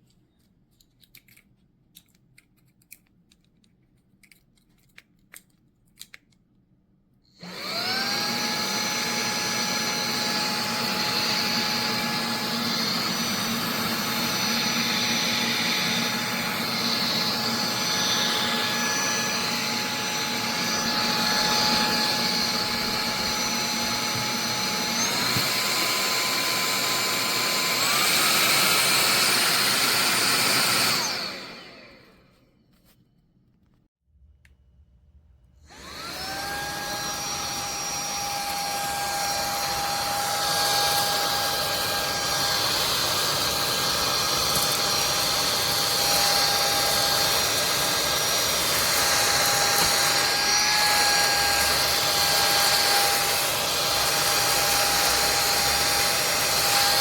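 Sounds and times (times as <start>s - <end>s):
handheld vacuum motor whine: 7.3s - 32.7s, 35.6s - 57.0s.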